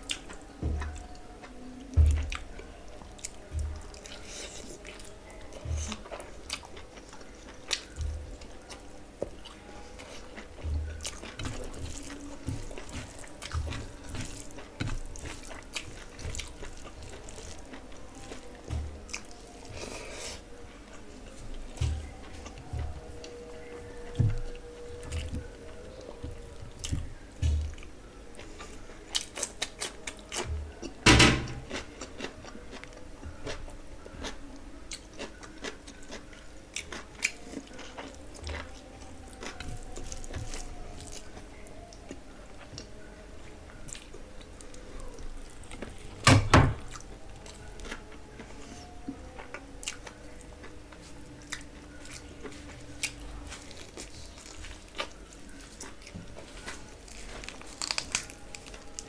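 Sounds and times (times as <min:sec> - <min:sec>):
close chewing and wet mouth sounds: 0:00.0 - 0:59.0.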